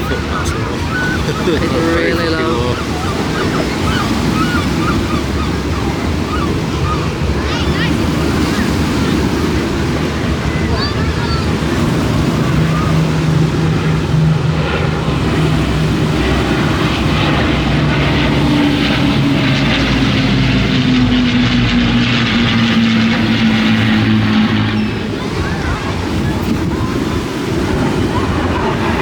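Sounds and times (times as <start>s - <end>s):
low-flying plane engine passing: 0.0s - 29.0s.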